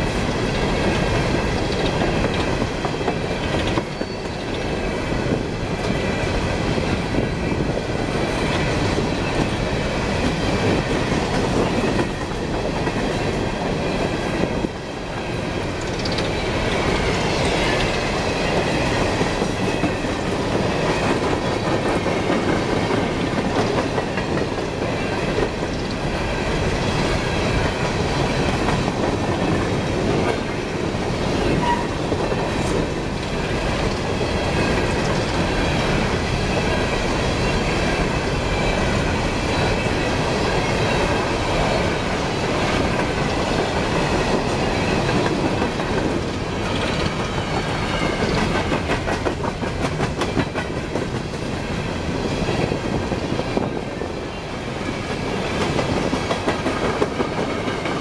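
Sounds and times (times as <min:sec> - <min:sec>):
train wheels clattering over rail joints: 0:00.0 - 0:14.8, 0:15.6 - 0:51.6, 0:54.9 - 0:58.0.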